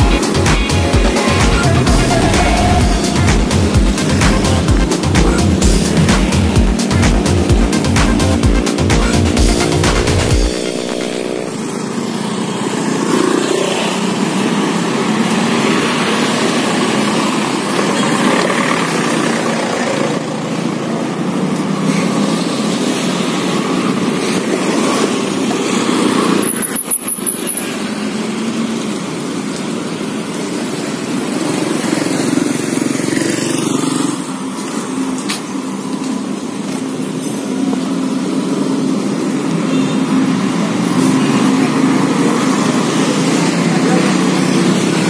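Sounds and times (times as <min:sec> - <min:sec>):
motorbikes passing by: 0:00.0 - 0:45.0
road noise: 0:00.0 - 0:45.0.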